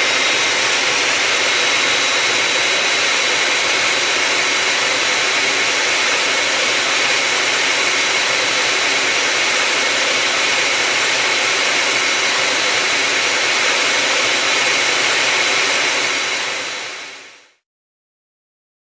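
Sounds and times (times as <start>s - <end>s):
high steady whine: 0.0s - 17.4s
jet engine running: 0.0s - 17.4s.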